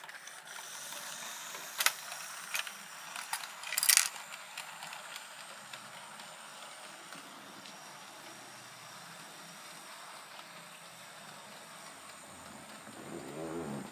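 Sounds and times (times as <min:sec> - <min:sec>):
model train running: 0:00.0 - 0:13.9.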